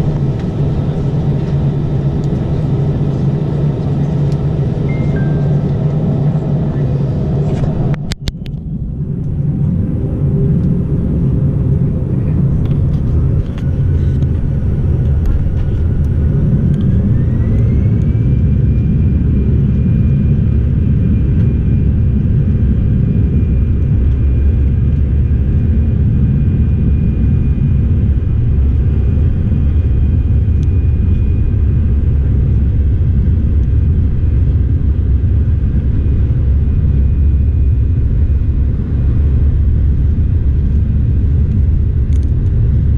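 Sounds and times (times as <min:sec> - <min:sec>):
jet engine whine: 0:00.0 - 0:42.9
takeoff roll rumble: 0:00.0 - 0:42.9.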